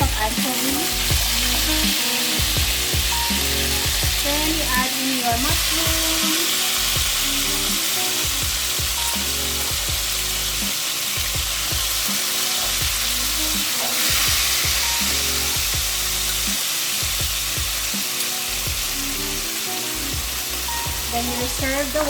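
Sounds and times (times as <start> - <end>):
background music: 0.0 - 22.0
mushrooms sizzling in oil: 0.0 - 22.0.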